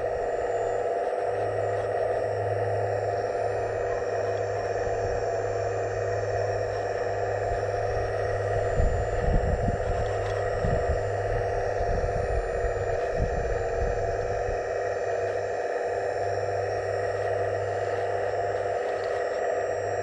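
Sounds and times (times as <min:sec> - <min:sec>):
hydraulic pump whine: 0:00.0 - 0:20.0.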